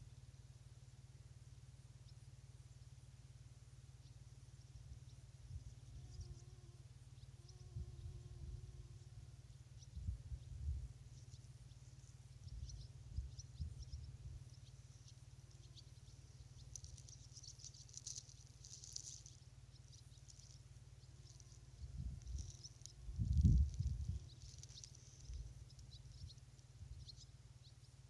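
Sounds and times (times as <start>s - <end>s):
faint high chirps: 3.9s - 28.0s.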